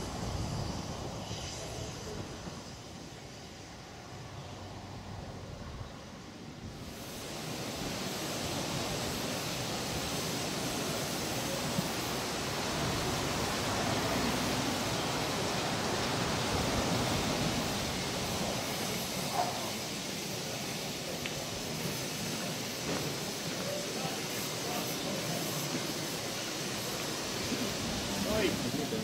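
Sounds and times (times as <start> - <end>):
locomotive steam hissing: 0.0 - 29.0.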